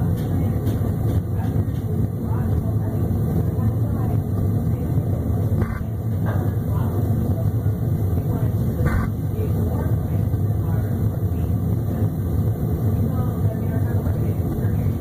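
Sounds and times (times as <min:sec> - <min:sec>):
water heater burner rumbling: 0:00.0 - 0:15.0.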